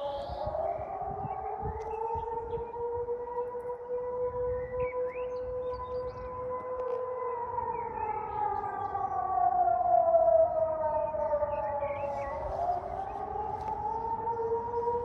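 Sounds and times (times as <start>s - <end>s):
warning sirens: 0.0s - 15.0s.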